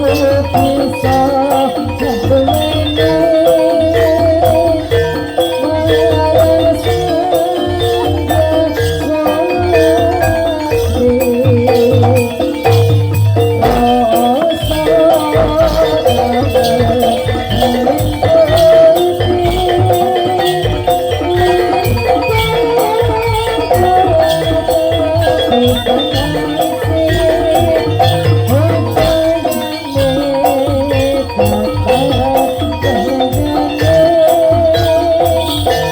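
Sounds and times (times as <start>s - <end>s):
mallet-struck metal tones: 0.0s - 35.9s
rapid percussion: 0.0s - 35.9s
wavering melody line: 0.0s - 35.9s.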